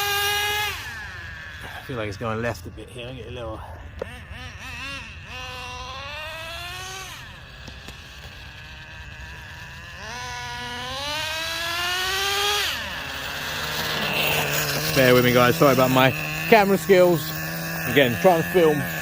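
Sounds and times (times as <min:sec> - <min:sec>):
model car engine buzzing: 0:00.0 - 0:19.0.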